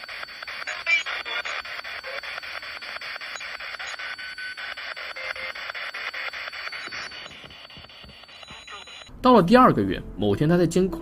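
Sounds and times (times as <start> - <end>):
brief scraps of radio sound: 0.0 - 9.1
radio static pulsing: 0.0 - 9.1.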